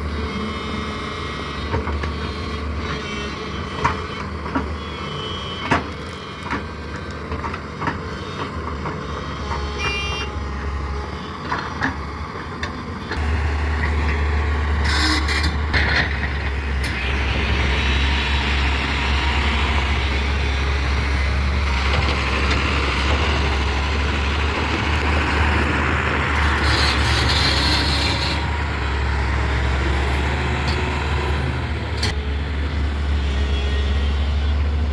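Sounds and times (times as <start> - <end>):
heavy diesel machinery droning: 0.0 - 34.9.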